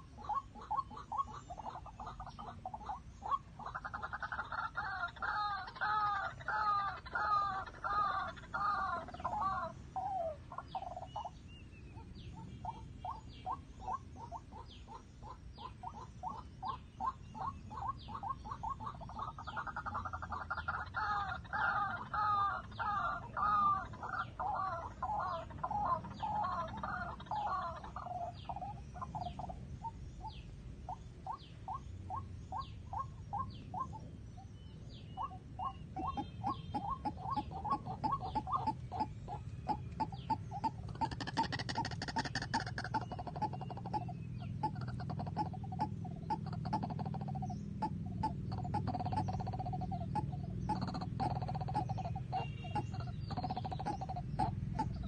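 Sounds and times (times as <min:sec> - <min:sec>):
waterhen calling: 0:00.0 - 0:55.0.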